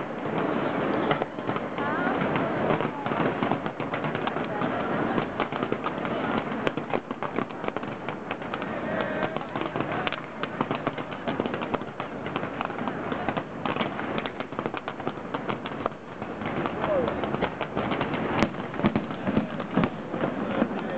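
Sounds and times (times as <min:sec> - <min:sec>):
fireworks bangs and crackles: 0:00.0 - 0:20.9.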